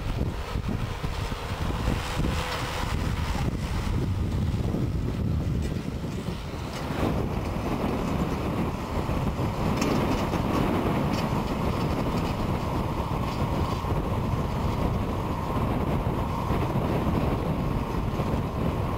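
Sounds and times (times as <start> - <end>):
tractor diesel engine under load: 0.0 - 18.9.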